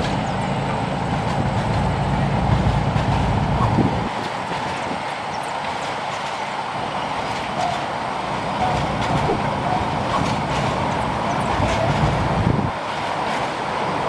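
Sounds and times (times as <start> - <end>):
freight train wheels rumbling: 0.0 - 14.0
rail clicks: 0.0 - 14.0.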